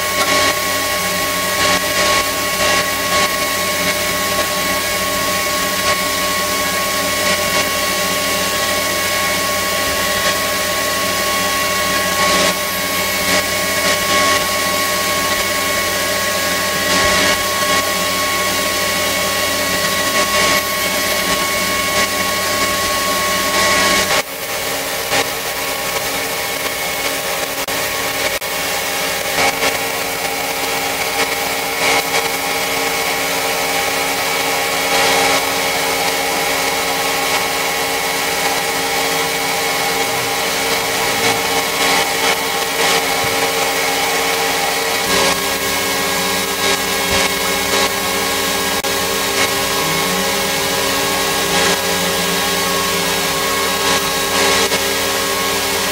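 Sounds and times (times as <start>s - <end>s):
power tool motor grinding: 0.0s - 55.9s.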